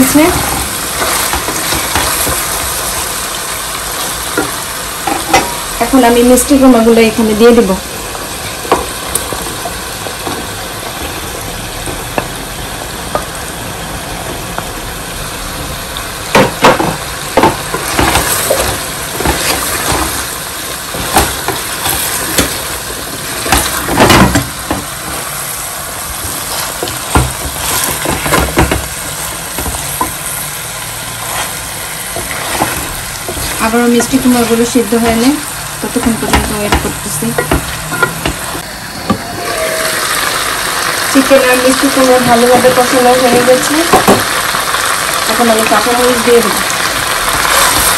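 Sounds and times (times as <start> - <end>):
curry sizzling in a pan: 0.0 - 47.9.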